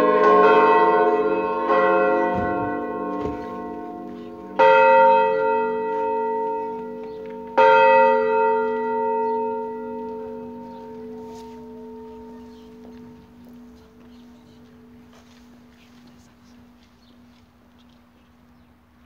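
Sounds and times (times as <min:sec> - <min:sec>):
church bell ringing: 0:00.0 - 0:17.4.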